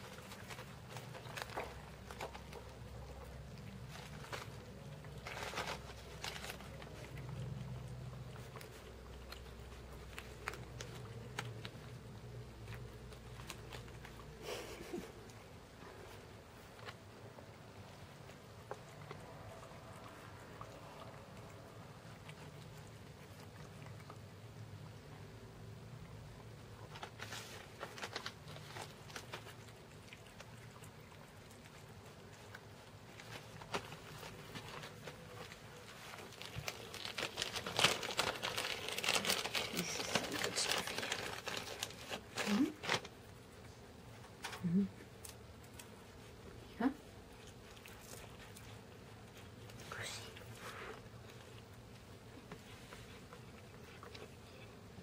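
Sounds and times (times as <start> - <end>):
cats chewing food: 0.0 - 55.0.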